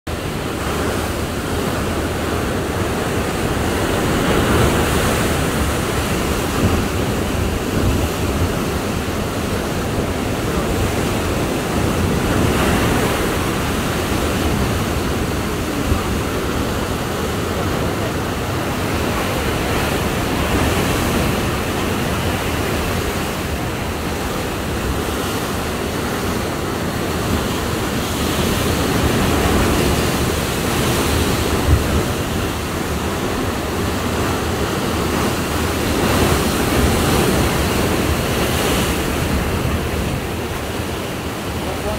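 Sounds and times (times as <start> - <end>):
surf breaking over rocks: 0.1 - 41.9.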